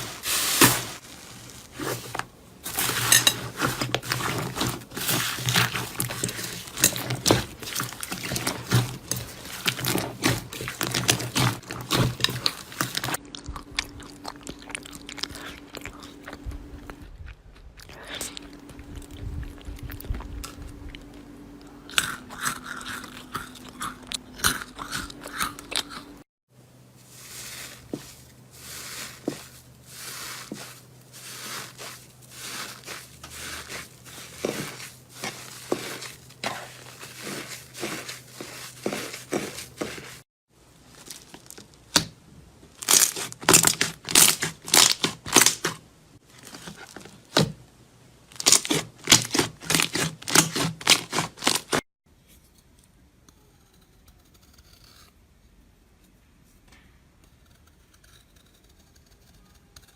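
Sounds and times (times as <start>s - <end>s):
slime and soap crunching: 0.0s - 26.2s, 27.0s - 47.6s, 48.3s - 51.8s.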